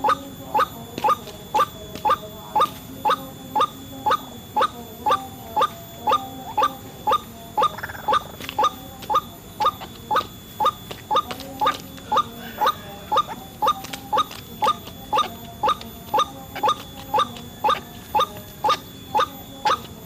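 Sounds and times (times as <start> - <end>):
waterhen calling: 0.0 - 19.9.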